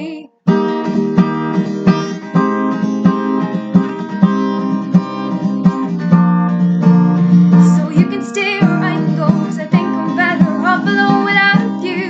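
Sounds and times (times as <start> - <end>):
acoustic guitar strumming: 0.4 - 12.0.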